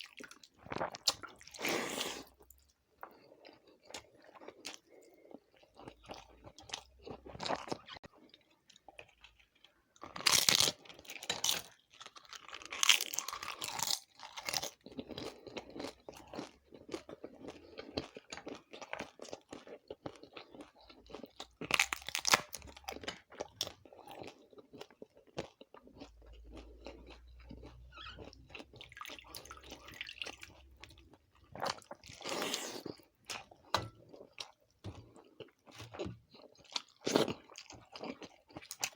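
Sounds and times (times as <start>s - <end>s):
person chewing close to microphone: 0.0s - 38.9s.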